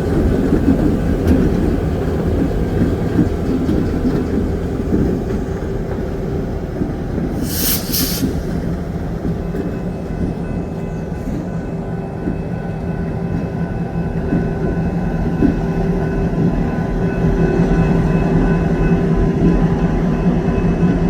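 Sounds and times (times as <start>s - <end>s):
locomotive low drone: 0.0s - 21.0s.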